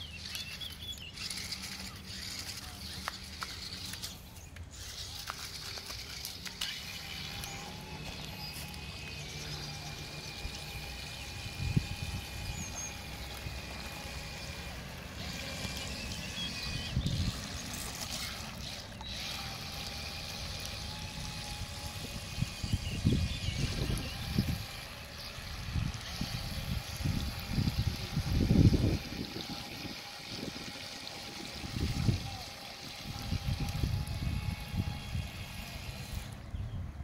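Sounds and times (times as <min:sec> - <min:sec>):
toy car electric motors whining: 0:00.0 - 0:37.0.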